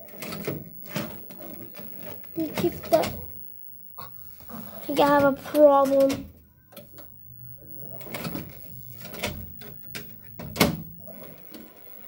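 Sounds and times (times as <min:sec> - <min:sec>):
vcr mechanical clicks and knocks: 0:00.0 - 0:03.4, 0:04.9 - 0:07.1, 0:07.8 - 0:12.0
faint low hum: 0:00.0 - 0:12.0.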